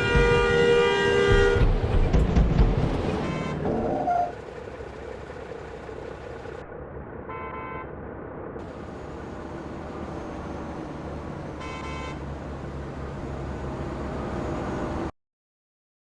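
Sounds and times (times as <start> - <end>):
traffic engine and road rumble: 0.0 - 15.2.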